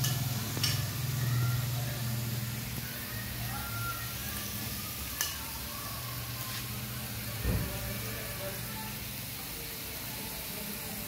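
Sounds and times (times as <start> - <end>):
meat sizzling on a grill pan: 0.0 - 11.0.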